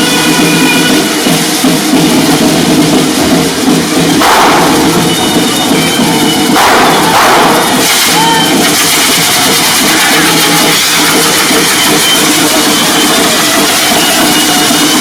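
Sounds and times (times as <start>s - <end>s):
fireworks hissing sparks: 0.4s - 15.0s.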